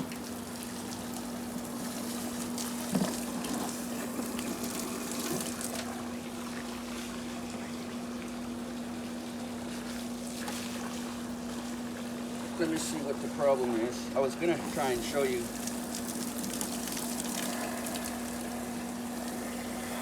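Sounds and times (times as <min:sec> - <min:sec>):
pool pump motor hum: 0:00.0 - 0:20.0
water moving through pump: 0:00.0 - 0:20.0.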